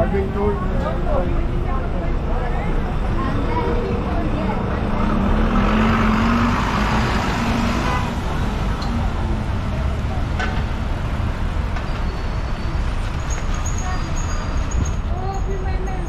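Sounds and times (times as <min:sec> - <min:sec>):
bus engine humming: 0:00.0 - 0:16.0
rumble of passing cars: 0:00.0 - 0:16.0.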